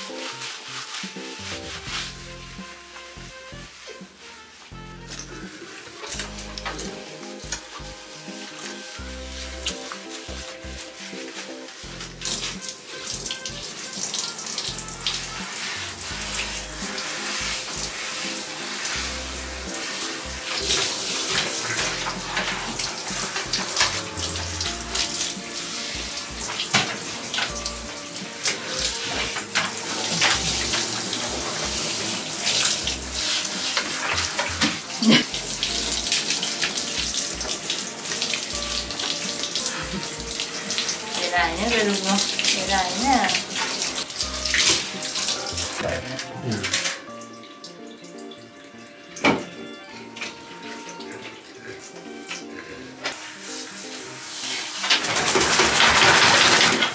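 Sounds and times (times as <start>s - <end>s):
water spraying from shower head: 0.0s - 56.9s.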